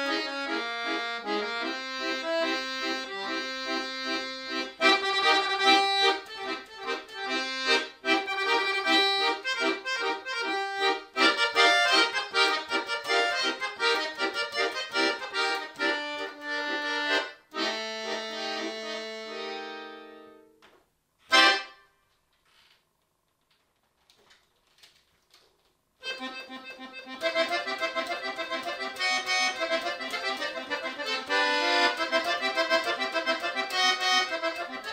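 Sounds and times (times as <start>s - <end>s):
button accordion playing: 0.0s - 20.6s, 21.3s - 21.9s, 26.0s - 34.9s.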